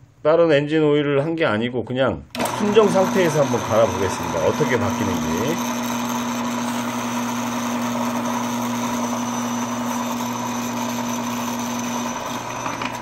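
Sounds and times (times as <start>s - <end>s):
electric motor humming: 2.4s - 13.0s.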